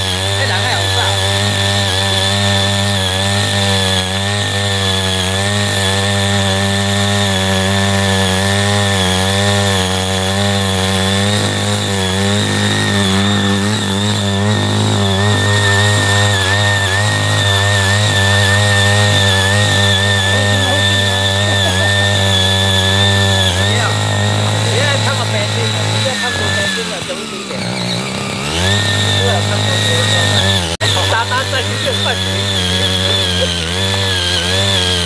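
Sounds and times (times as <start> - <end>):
small engine running: 0.0 - 35.0.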